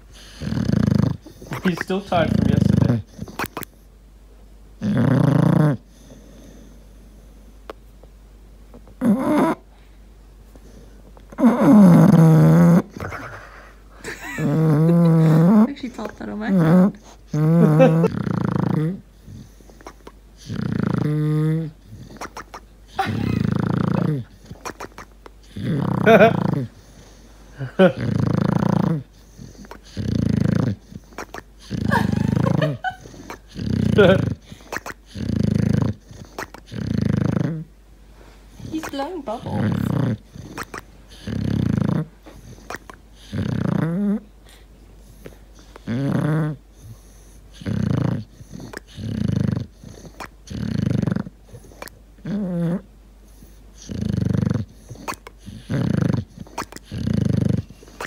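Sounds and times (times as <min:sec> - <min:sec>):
dog snoring: 0:00.0 - 0:03.8, 0:04.8 - 0:07.4, 0:08.8 - 0:09.7, 0:10.6 - 0:37.7, 0:38.5 - 0:58.0.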